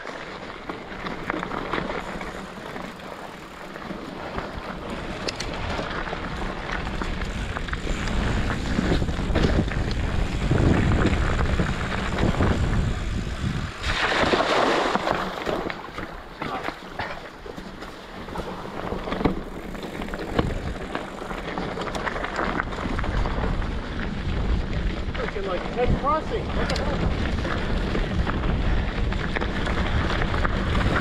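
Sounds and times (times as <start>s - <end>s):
wind buffeting microphone: 0.9s - 31.0s.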